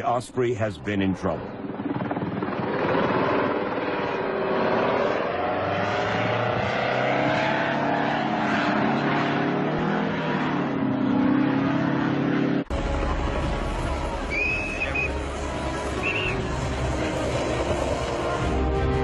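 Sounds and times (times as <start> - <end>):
aircraft engines and rotors droning: 0.0 - 19.0.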